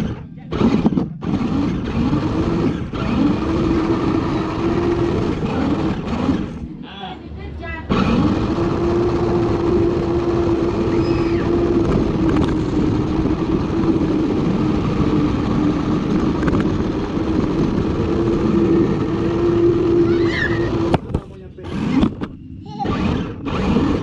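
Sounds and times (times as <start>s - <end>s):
electric motor and gears whining: 0.0s - 24.0s.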